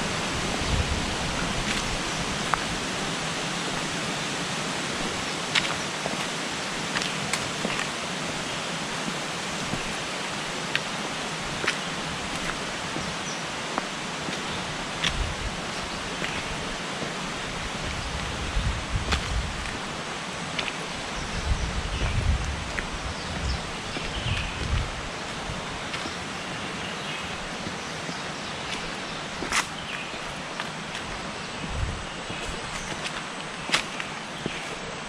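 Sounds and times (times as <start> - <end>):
running water rushing: 0.0 - 35.0.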